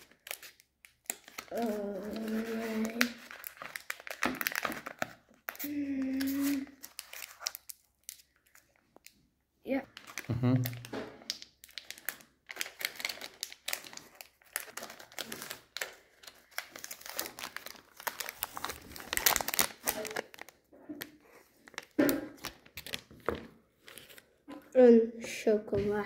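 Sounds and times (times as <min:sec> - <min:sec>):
wrapper crinkling and rustling: 0:00.0 - 0:09.2, 0:09.8 - 0:24.5.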